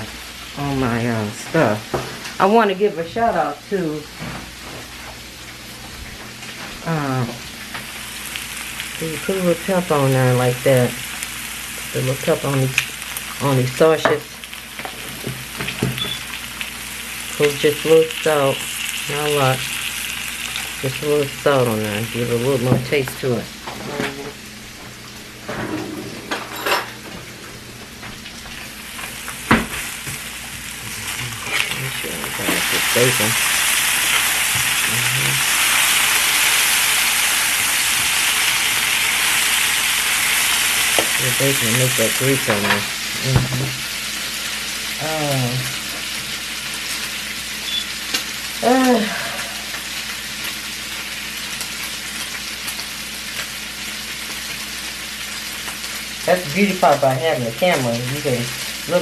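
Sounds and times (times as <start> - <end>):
sausages sizzling in a frying pan: 0.0 - 25.5, 27.8 - 59.0.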